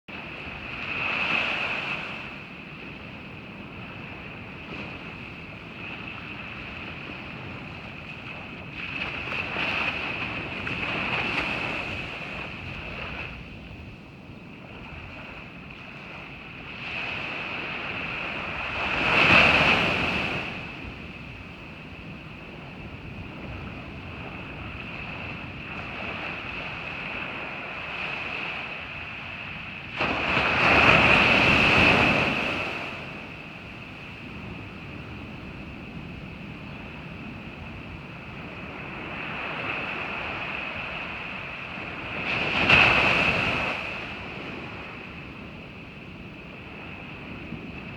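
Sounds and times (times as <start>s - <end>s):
ocean surf: 0.1s - 47.9s
wind on microphone: 0.1s - 47.9s.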